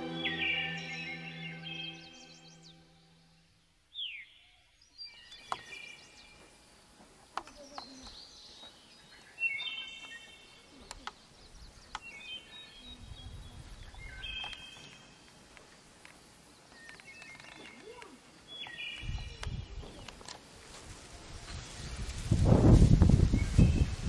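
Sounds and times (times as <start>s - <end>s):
songbirds singing: 0.0s - 20.4s
faint outdoor background noise: 0.0s - 24.0s.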